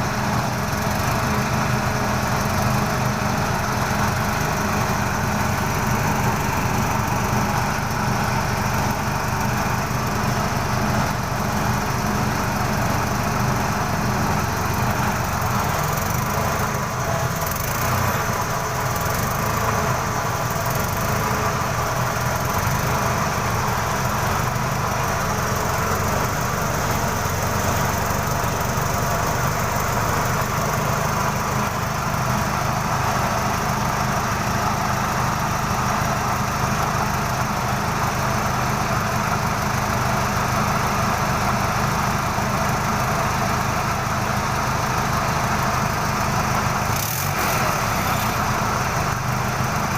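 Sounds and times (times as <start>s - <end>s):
gasoline engine running steadily: 0.0s - 49.9s.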